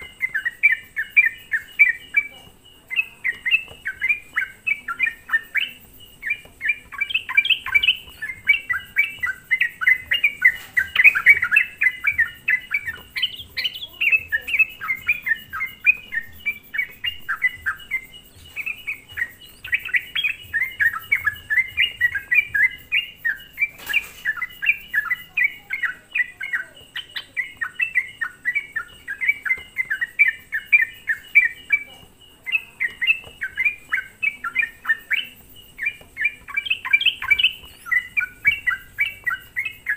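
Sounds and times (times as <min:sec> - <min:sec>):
bulbul singing quick chirps: 0:00.0 - 0:39.9.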